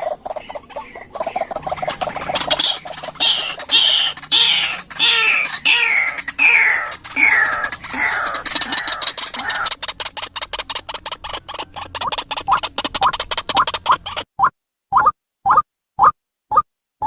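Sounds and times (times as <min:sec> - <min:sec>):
waterhen clucking and squawking: 0:00.0 - 0:16.6.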